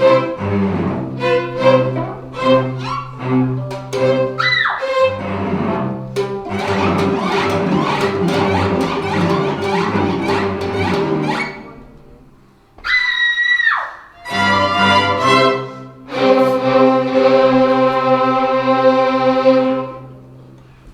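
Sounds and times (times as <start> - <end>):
chamber string orchestra playing: 0.0 - 12.8, 14.2 - 20.9.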